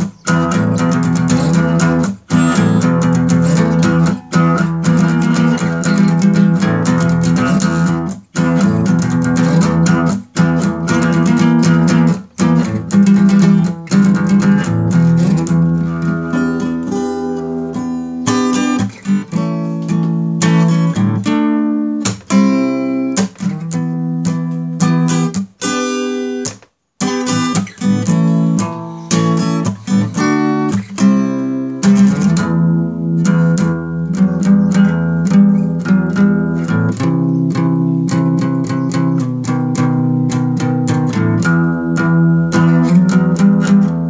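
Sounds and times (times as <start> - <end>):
guitar plucked notes and chords: 0.0 - 44.0.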